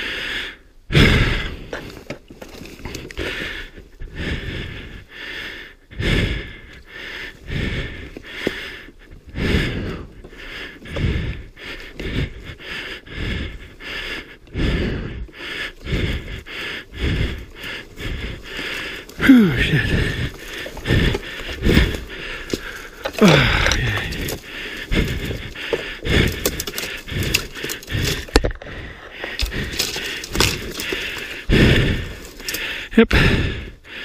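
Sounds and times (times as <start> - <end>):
person breathing heavily: 0.0 - 34.0.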